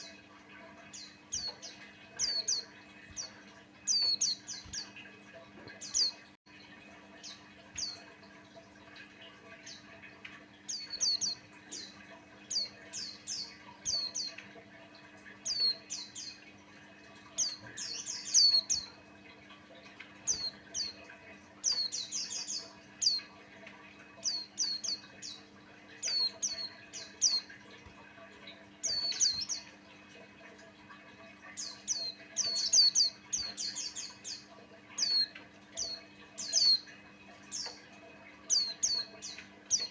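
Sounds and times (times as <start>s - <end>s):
bird chirping song: 0.0s - 8.2s, 8.9s - 14.6s, 15.2s - 19.2s, 19.8s - 27.6s, 28.4s - 29.9s, 31.4s - 39.9s
faint steady hum: 0.0s - 39.9s.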